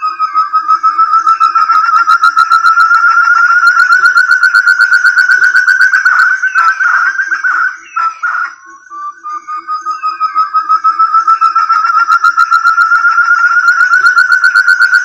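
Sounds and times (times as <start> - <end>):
quail lure call trill: 0.0 - 8.7, 10.4 - 15.0.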